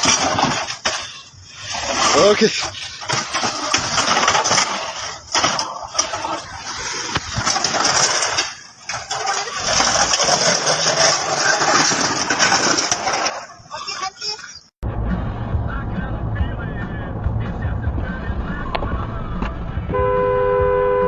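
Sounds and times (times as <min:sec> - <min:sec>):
road noise: 0:00.0 - 0:21.0
vehicle engine: 0:00.0 - 0:21.0.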